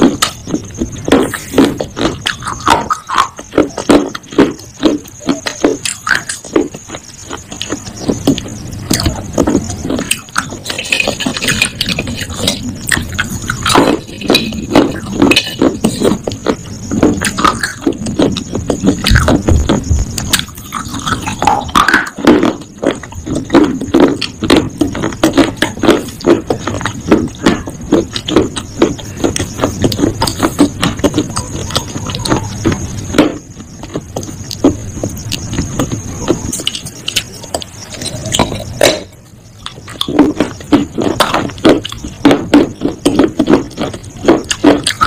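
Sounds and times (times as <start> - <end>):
person chewing and crunching: 0.0 - 45.0.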